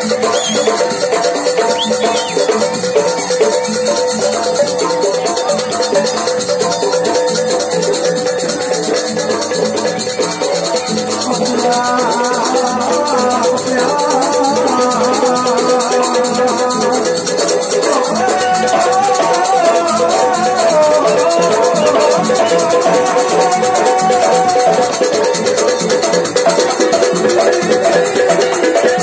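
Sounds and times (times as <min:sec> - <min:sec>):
high jingling rattle: 0:00.0 - 0:29.0
wavering melody line: 0:00.0 - 0:29.0.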